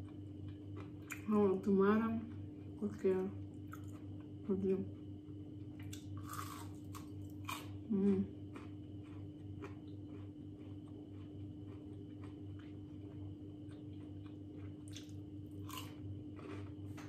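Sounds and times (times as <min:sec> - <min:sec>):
person chewing crunchy food: 0:00.0 - 0:01.3, 0:03.4 - 0:17.0
steady low hum: 0:00.0 - 0:17.0.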